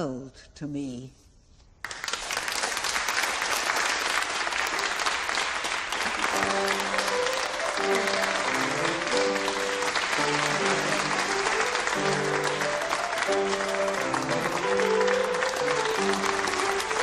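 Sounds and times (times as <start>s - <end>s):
audience applauding: 1.8s - 17.0s.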